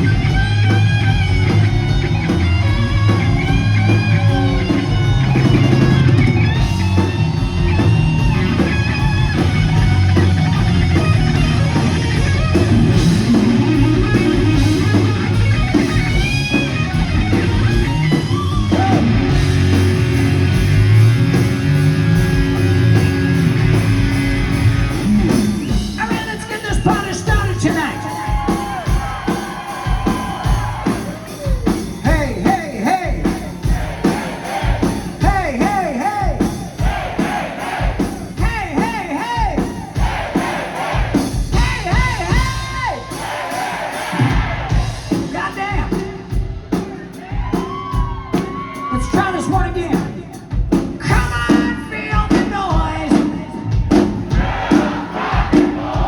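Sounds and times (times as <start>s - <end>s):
hard rock music: 0.0s - 56.0s.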